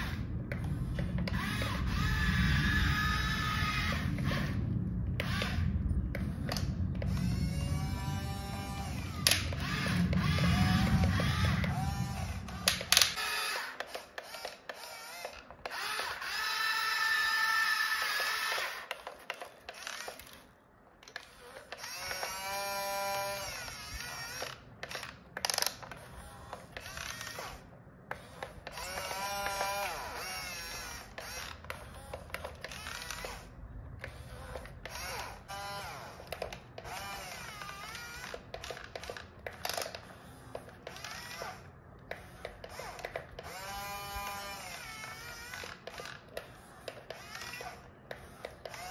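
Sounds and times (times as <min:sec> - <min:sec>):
toy electric motors whining: 0:00.0 - 0:48.9.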